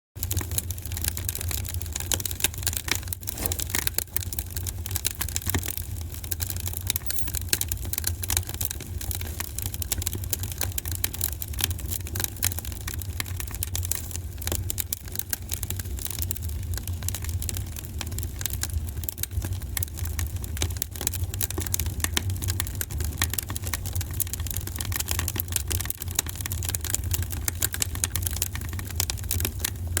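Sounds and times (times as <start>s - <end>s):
low rumble of flames: 0.2s - 6.9s, 8.0s - 30.0s
fire crackling and popping: 0.2s - 30.0s.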